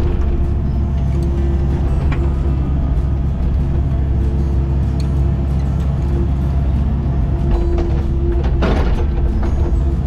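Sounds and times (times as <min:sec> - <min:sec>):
diesel engine running: 0:00.0 - 0:10.0
low hum: 0:00.0 - 0:10.0
steady whining tone: 0:00.0 - 0:10.0.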